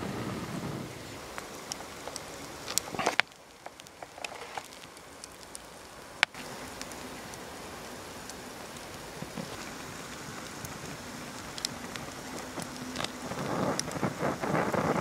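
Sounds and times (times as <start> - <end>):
campfire crackling: 0.0 - 15.0
sharp snaps of fire: 0.0 - 15.0.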